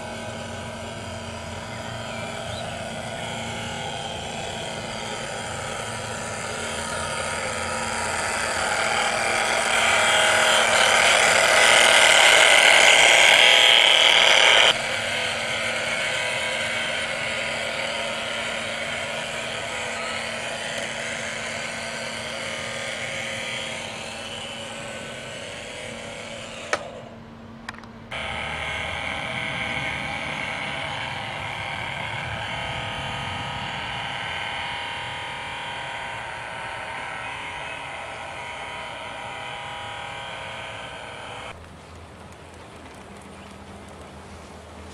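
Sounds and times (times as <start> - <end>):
model locomotive motor whirring: 0.0 - 44.9.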